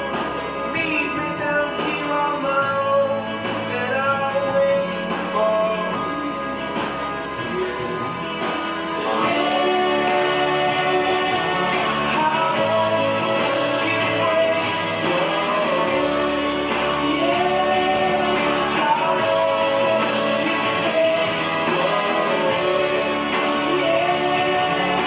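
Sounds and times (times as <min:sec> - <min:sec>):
rock song with singing: 0:00.0 - 0:25.0.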